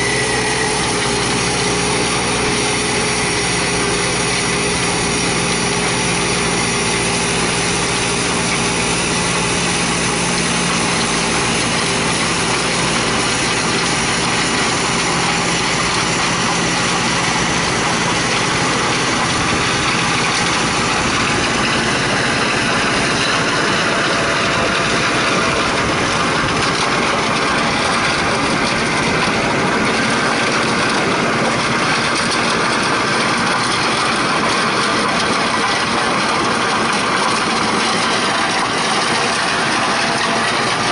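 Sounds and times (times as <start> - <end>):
stone crusher din: 0.0 - 40.9
tractor engine under load: 0.0 - 40.9.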